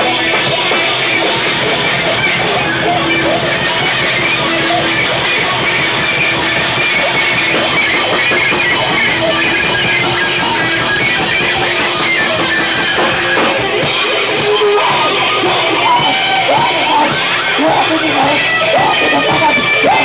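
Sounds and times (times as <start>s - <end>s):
loud rock music with guitar: 0.0s - 20.0s.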